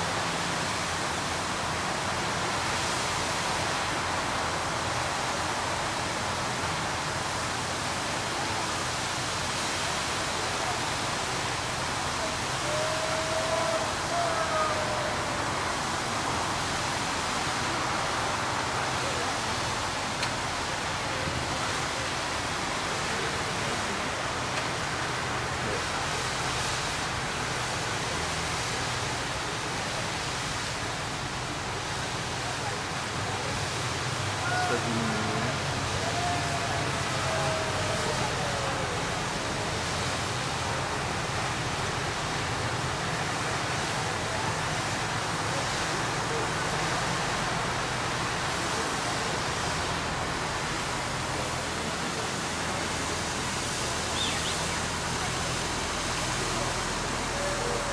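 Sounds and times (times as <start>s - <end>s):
water jet rushing hiss: 0.0s - 57.9s.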